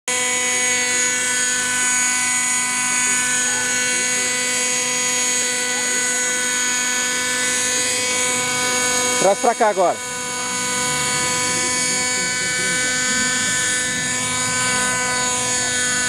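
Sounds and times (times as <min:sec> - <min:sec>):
model helicopter engine hovering: 0:00.1 - 0:16.0.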